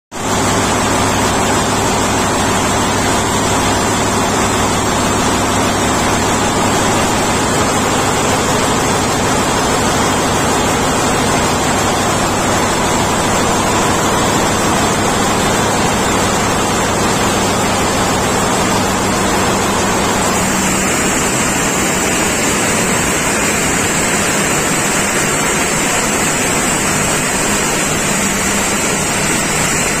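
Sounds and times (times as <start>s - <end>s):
large engine running: 0.2s - 30.0s.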